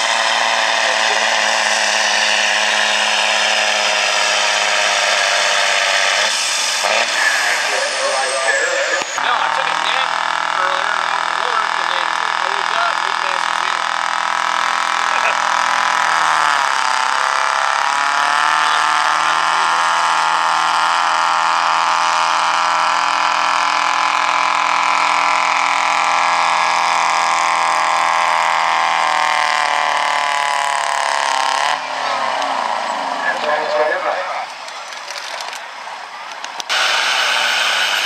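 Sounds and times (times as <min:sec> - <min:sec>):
diesel truck engine revving hard: 0:00.0 - 0:34.2, 0:36.7 - 0:38.0.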